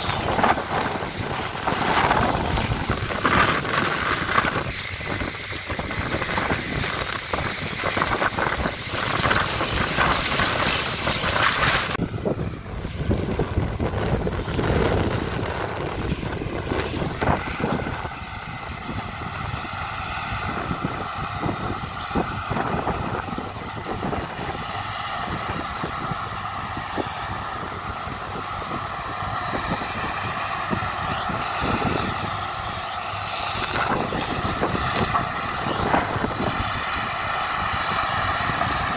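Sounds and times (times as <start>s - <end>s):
tractor engine running: 0.0s - 38.9s
wind buffeting microphone: 0.0s - 38.9s.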